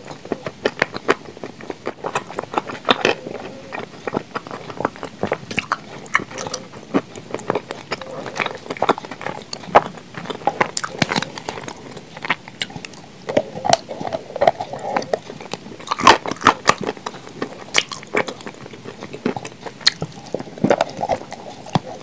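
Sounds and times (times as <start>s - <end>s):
chewing with crunches: 0.0s - 22.0s.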